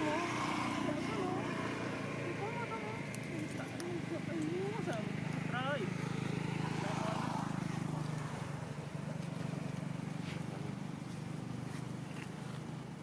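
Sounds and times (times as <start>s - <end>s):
engine running drone: 0.0s - 13.0s.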